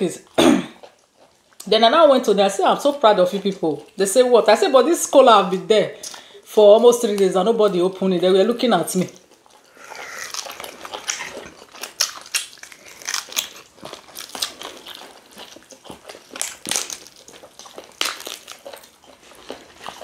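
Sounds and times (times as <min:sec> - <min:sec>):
people chewing crunchy food: 0:00.0 - 0:05.0, 0:06.0 - 0:20.0.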